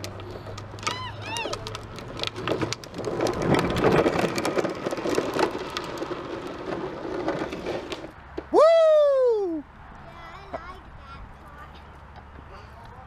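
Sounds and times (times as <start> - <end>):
plastic wheels rolling on asphalt: 0.0 - 8.5, 9.8 - 13.0.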